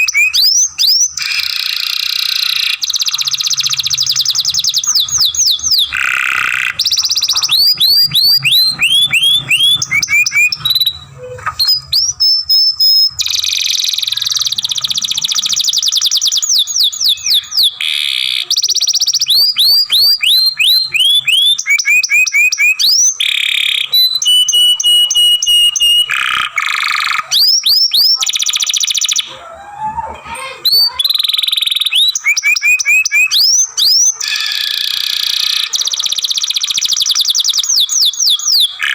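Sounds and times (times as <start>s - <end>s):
canary singing trills: 0.0s - 29.4s, 30.0s - 38.9s.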